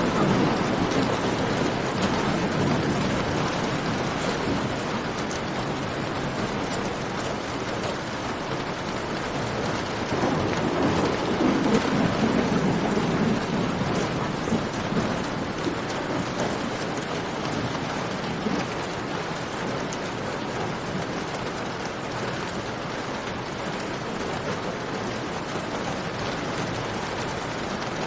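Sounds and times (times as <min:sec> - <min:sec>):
rain falling in a cave: 0:00.0 - 0:28.0.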